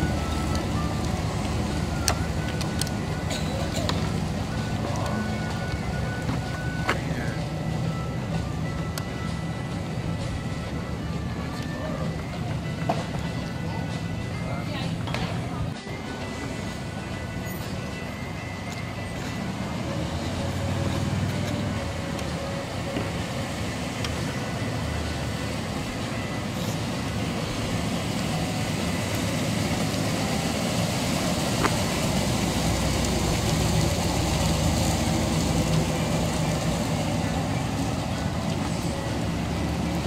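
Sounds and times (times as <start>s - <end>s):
car engine driving by: 0.0s - 40.0s
road noise: 0.0s - 40.0s.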